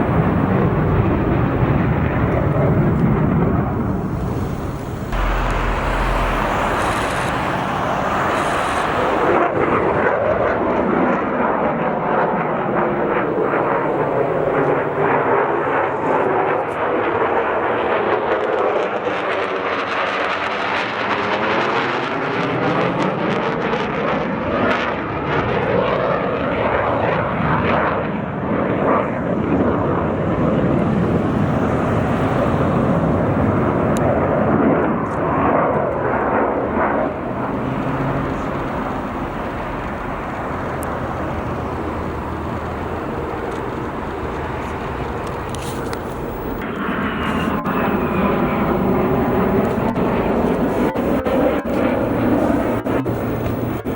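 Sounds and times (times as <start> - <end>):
fighter jet passing overhead: 0.0 - 53.9.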